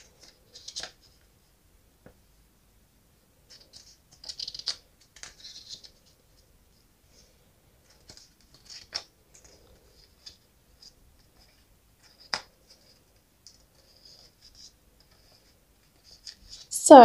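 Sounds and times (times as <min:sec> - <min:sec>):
paper pages turning: 0:00.0 - 0:01.3, 0:03.5 - 0:06.5, 0:07.2 - 0:16.7.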